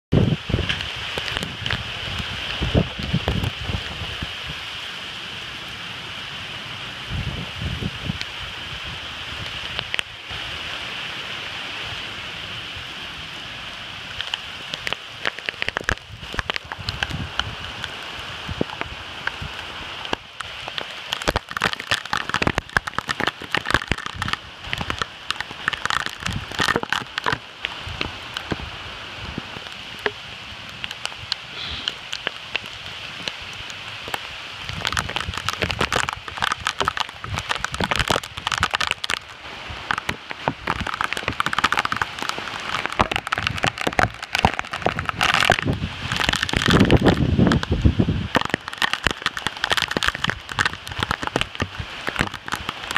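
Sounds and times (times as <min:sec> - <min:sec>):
heavy rain pouring: 0:00.1 - 0:52.9
raindrops hitting close by: 0:00.1 - 0:52.9
wind through trees: 0:00.1 - 0:52.9.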